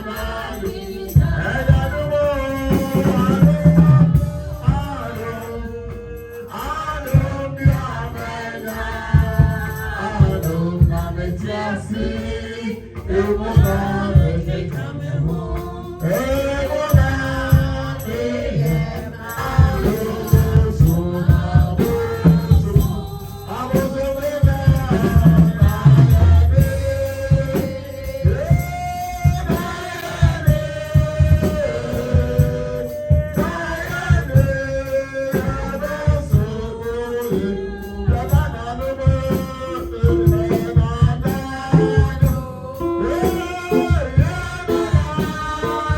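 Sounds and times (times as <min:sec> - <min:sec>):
steady drum beat: 0:00.0 - 0:45.9
voices singing gospel music: 0:00.0 - 0:45.9.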